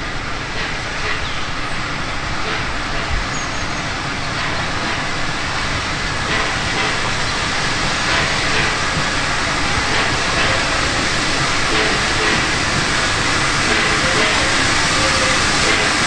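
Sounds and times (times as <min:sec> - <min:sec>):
steam hissing: 0:00.0 - 0:16.0
steam locomotive exhaust beats: 0:00.0 - 0:16.0.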